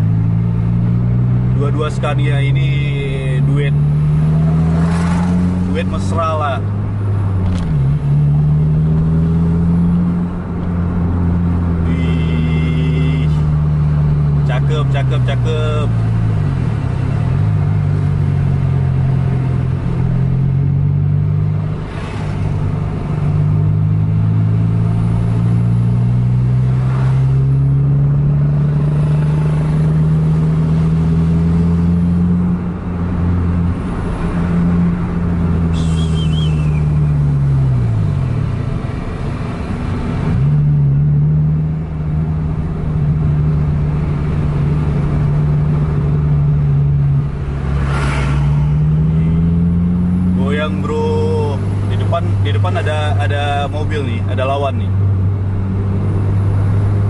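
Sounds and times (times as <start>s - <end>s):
car engine under load: 0.0s - 57.0s.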